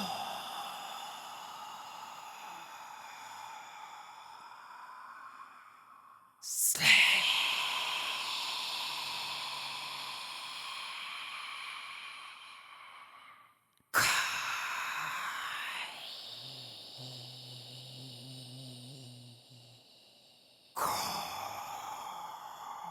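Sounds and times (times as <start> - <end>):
breathy whispering: 0.0 - 22.9.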